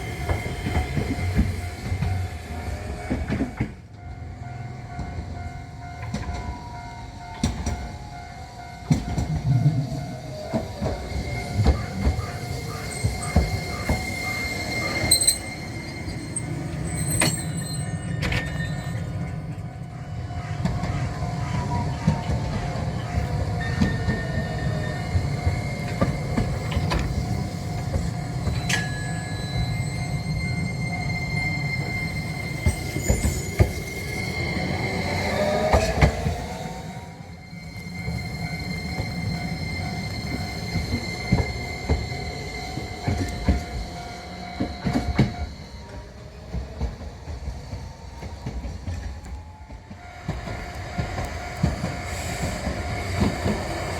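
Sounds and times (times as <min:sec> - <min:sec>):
high wheel squeal: 0:00.0 - 0:53.9
streetcar rumbling past: 0:00.0 - 0:53.9.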